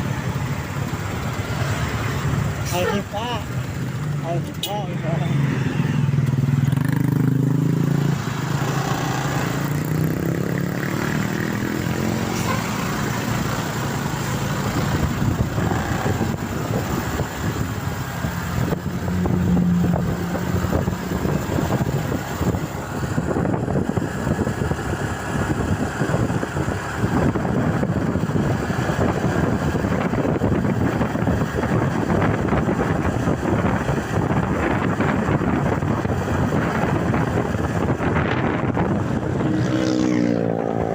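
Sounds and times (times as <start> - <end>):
traffic engines and road noise: 0.0 - 40.9.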